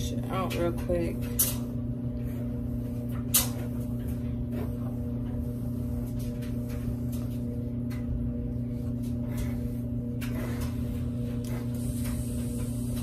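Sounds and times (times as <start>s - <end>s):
washer and dryer humming: 0.0s - 13.0s.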